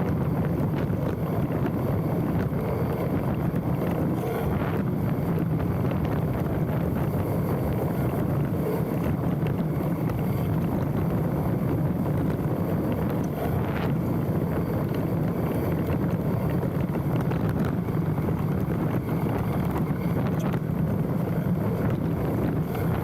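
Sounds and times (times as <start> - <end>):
bike tyres rolling on dirt: 0.0 - 23.0
wind buffeting microphone: 0.0 - 23.0.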